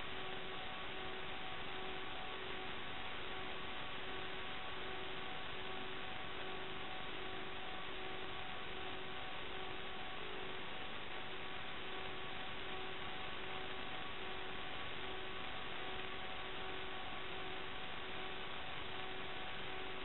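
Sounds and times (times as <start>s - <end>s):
faint steady tones hum: 0.0s - 20.0s
static hiss: 0.0s - 20.0s.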